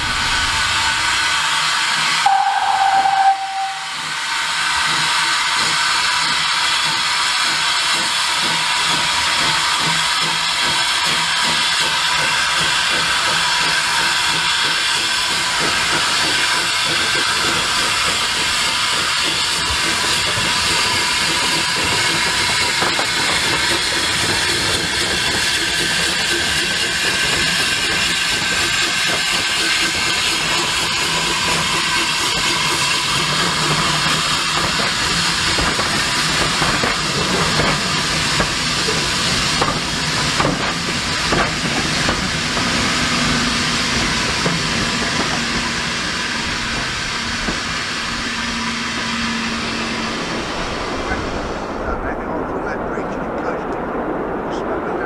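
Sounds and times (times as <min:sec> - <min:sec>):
steam locomotive hissing: 0:00.0 - 0:55.0
train clicks: 0:04.0 - 0:49.2.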